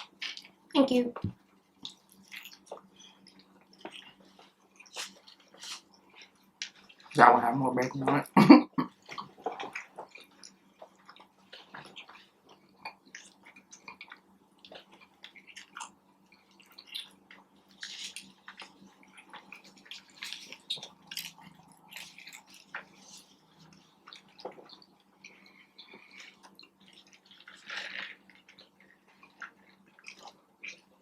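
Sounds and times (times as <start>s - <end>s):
person chewing food: 0.0s - 7.2s, 8.9s - 31.0s.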